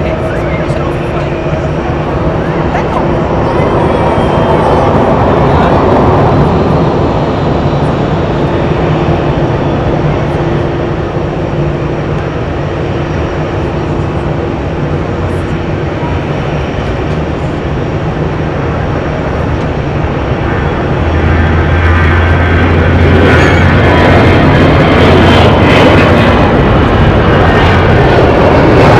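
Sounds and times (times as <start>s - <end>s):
jet engine noise: 0.0s - 28.9s.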